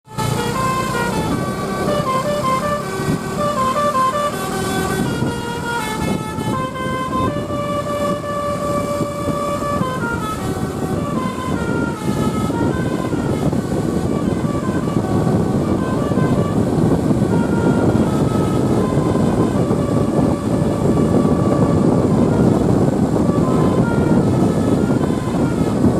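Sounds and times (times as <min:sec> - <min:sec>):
bus horn playing a melody: 0:00.1 - 0:25.9
steady low rumble: 0:00.1 - 0:25.9.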